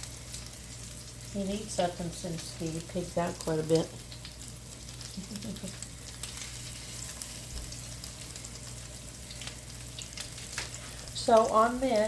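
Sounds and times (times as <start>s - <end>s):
meatballs sizzling in a pan: 0.0s - 12.0s.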